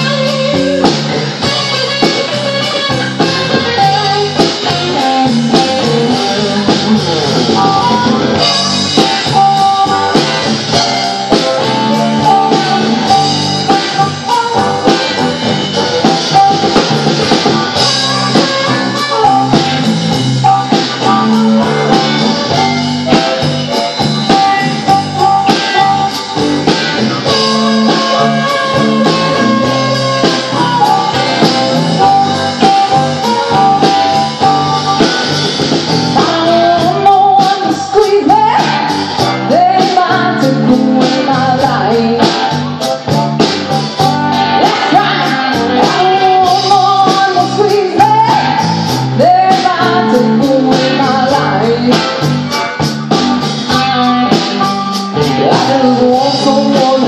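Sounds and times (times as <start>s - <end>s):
drum kit beat: 0.0s - 57.0s
electric guitar: 0.0s - 57.0s.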